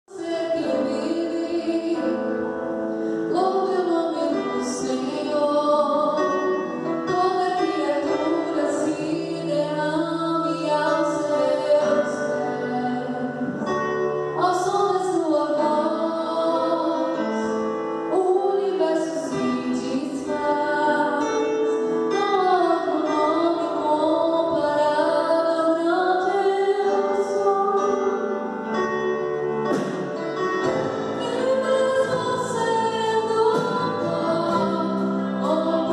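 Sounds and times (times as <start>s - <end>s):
instrumental accompaniment: 0.1s - 35.9s.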